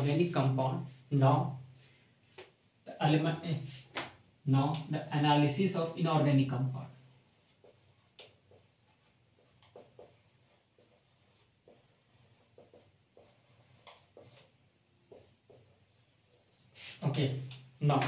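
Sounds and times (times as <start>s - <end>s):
marker pen on whiteboard: 0.0s - 18.0s.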